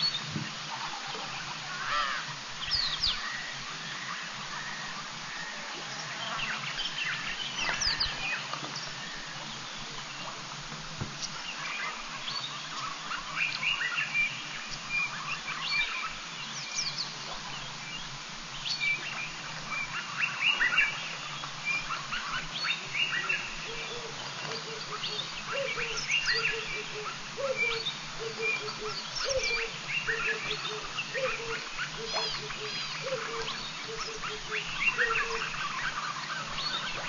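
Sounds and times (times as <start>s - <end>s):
small birds chirping and trilling: 0.0s - 37.0s.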